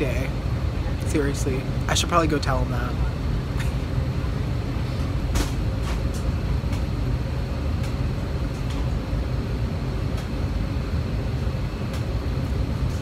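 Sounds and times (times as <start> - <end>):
cabin ventilation rumble: 0.0 - 13.0.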